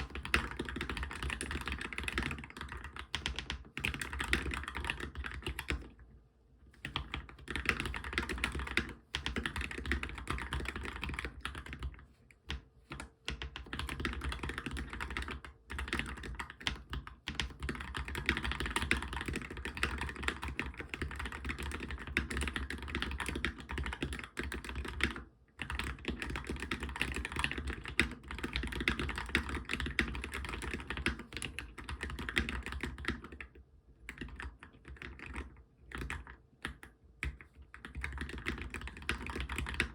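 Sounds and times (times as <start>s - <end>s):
fast mechanical keyboard typing: 0.0s - 5.9s, 6.8s - 39.9s.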